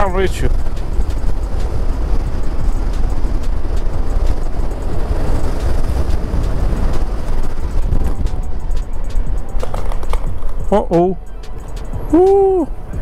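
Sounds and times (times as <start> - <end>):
tyre noise: 0.0 - 11.1
scooter engine: 0.0 - 13.0
wind buffeting microphone: 0.0 - 13.0.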